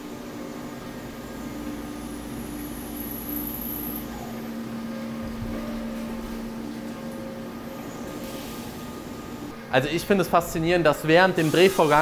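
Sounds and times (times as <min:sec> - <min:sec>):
high machine whine: 0:00.0 - 0:12.0
lathe machine hum: 0:00.0 - 0:12.0.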